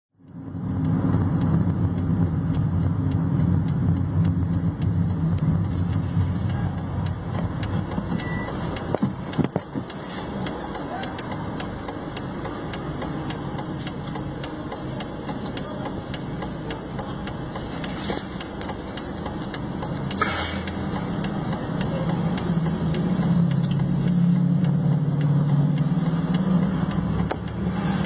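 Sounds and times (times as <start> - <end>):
car engine and road noise: 0.1 - 28.0.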